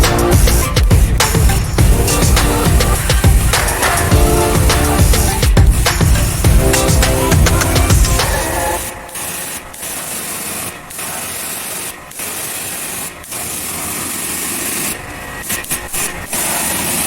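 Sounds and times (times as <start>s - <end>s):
pressure washer water jet spraying: 0.0s - 17.0s.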